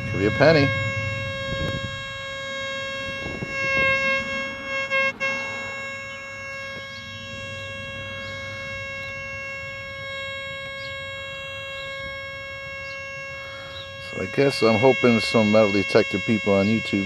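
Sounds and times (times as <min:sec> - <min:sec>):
metal detector electronic tone: 0:00.0 - 0:17.0.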